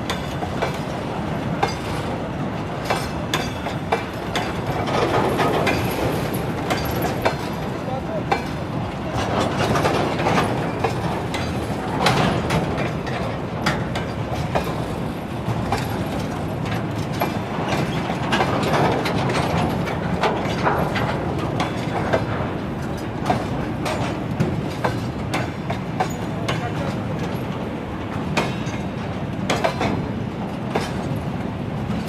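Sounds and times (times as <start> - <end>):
wheels clicking over rail joints: 0.0 - 32.0.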